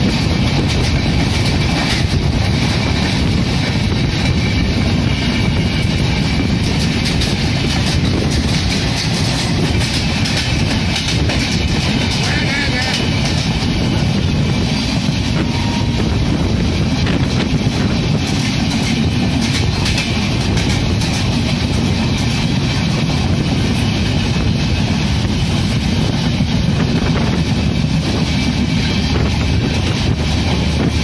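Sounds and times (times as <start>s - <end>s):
clickety-clack of rails: 0.0s - 31.0s
train wheels rumbling on rails: 0.0s - 31.0s.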